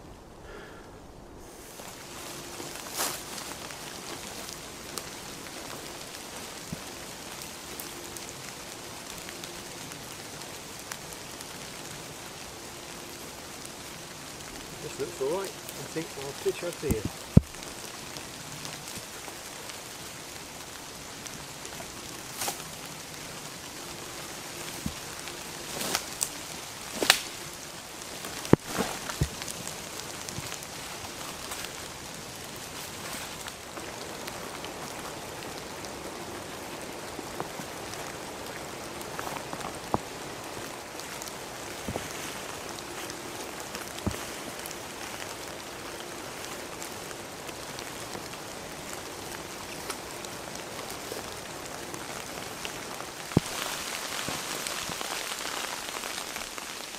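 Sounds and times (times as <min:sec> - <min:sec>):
steady rain falling: 0:00.0 - 0:56.9
tent and backpack rustling: 0:01.4 - 0:56.9.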